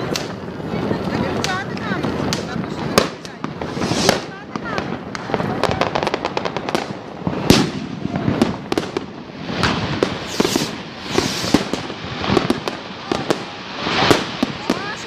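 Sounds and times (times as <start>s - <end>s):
bursts of crackling: 0.0s - 15.0s
firecrackers cracking: 0.0s - 15.0s
fireworks bangs: 0.0s - 15.0s.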